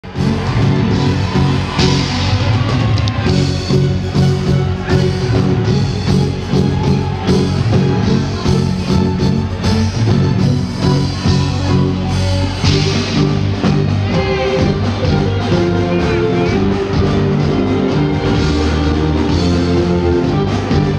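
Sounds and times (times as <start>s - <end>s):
heavy bass line: 0.0s - 20.9s
live reggae music: 0.0s - 20.9s.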